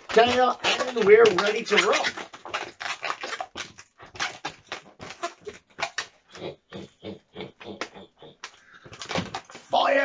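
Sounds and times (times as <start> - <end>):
balloons squeaking and rubbing: 0.0 - 10.0.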